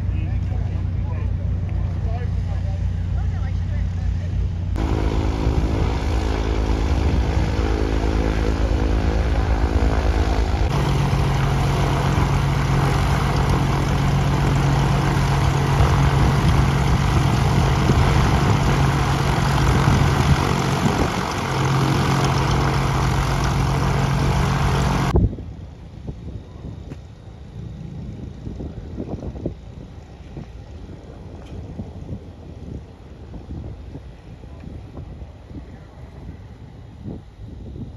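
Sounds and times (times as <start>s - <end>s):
propeller airplane engine droning: 0.0s - 37.9s.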